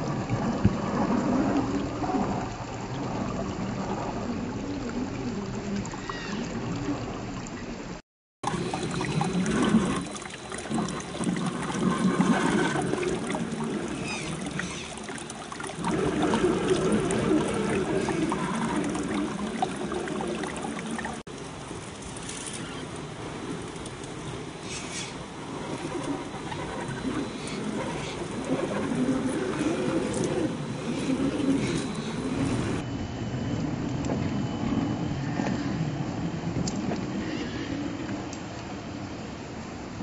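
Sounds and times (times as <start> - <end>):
stream trickling over rocks: 0.0 - 32.8.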